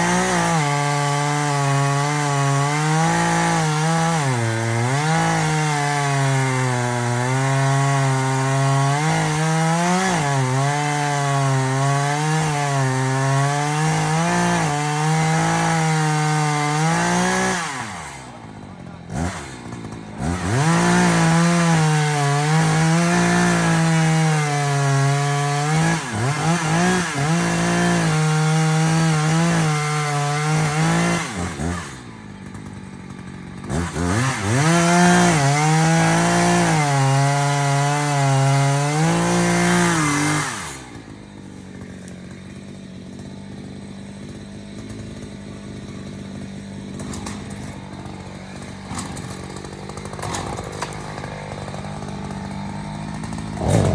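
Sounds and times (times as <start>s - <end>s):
chainsaw revving and cutting: 0.0s - 53.9s.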